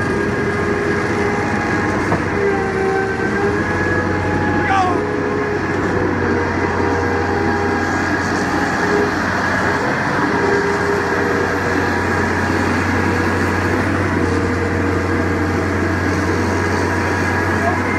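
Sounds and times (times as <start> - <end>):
concrete pump engine hum: 0.0 - 17.9
whining tones: 0.0 - 17.9.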